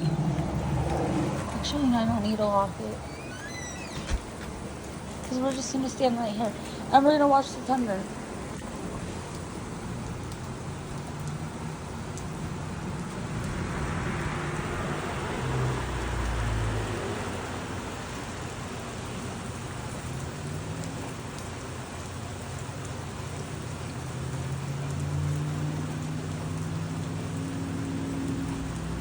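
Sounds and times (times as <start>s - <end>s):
vehicle engine approaching: 0.0s - 5.6s, 8.1s - 29.0s
car passing on wet road: 0.0s - 29.0s
steady rain falling: 0.0s - 29.0s.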